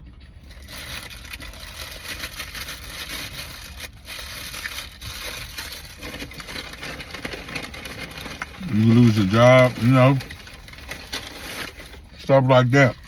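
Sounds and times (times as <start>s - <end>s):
crunching and chewing food: 0.0s - 13.0s.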